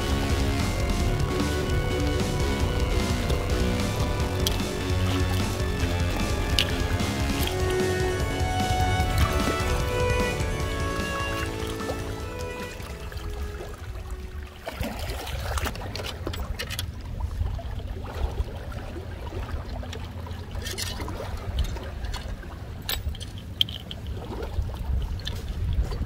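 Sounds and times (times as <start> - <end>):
fishing gear clicking and rustling: 0.0 - 14.0, 15.3 - 17.0, 20.5 - 25.9
water lapping against rocks: 0.0 - 26.0.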